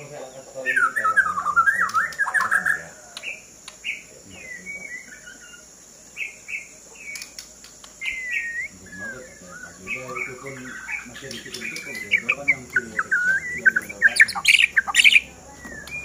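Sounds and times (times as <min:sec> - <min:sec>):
bird singing warbled notes: 0:00.0 - 0:07.3, 0:08.0 - 0:16.0.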